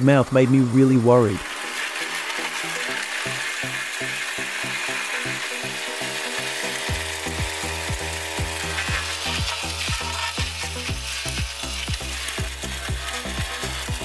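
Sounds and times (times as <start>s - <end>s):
wood chipper grinding branches: 0.0s - 14.0s
background music with beat: 1.9s - 14.0s.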